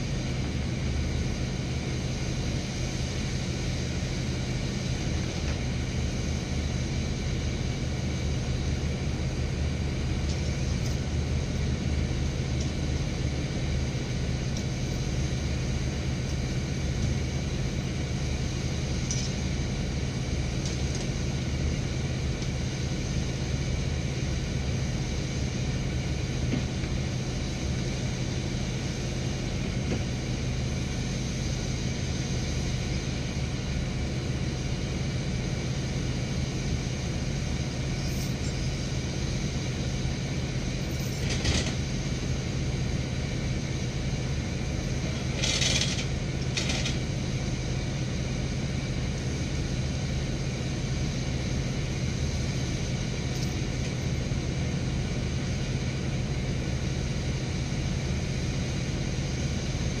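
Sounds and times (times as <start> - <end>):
truck engine running: 0.0 - 60.0.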